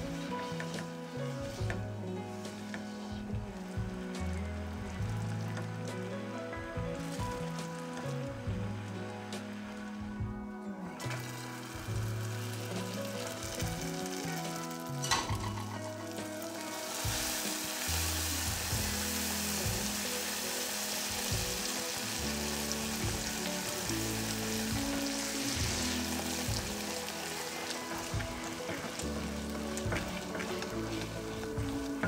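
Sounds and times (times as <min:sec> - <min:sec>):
caramel sizzling in saucepan: 0:00.0 - 0:10.1, 0:10.9 - 0:32.0.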